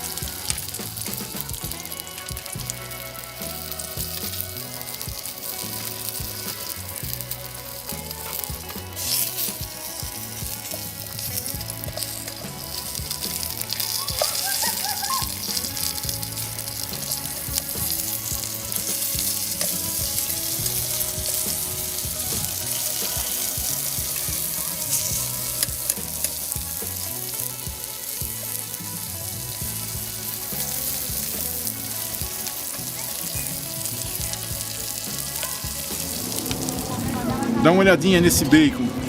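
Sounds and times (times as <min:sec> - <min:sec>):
bacon sizzling in fat: 0:00.0 - 0:38.7.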